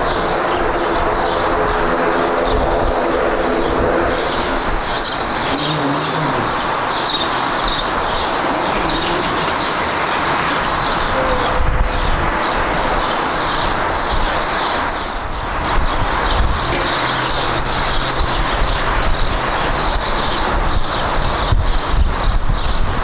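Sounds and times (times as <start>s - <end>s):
jet engine roar: 0.0s - 21.4s
faint birds chirping: 0.0s - 23.0s.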